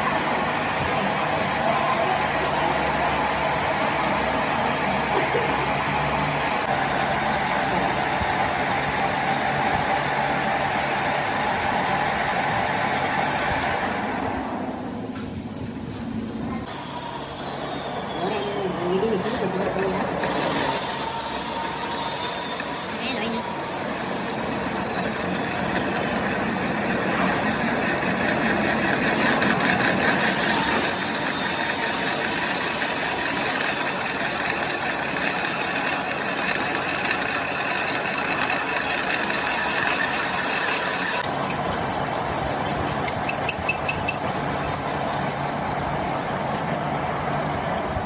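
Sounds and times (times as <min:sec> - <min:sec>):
heavy engine running with rattling: 0:00.0 - 0:14.3, 0:19.0 - 0:48.0.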